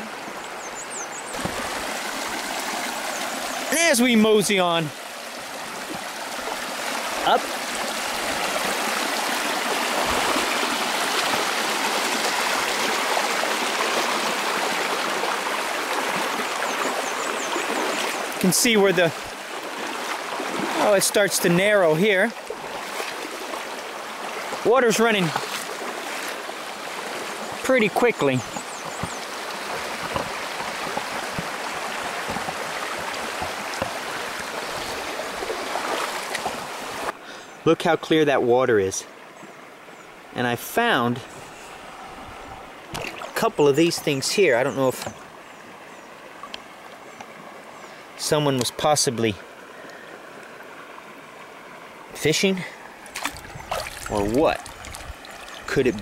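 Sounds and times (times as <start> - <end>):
creek water splashing over rocks: 0.0 - 56.0.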